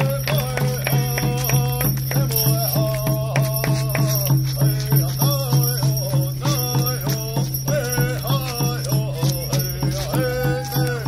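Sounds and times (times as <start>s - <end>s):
fast drum beats: 0.0s - 11.0s
person chanting: 0.0s - 11.0s.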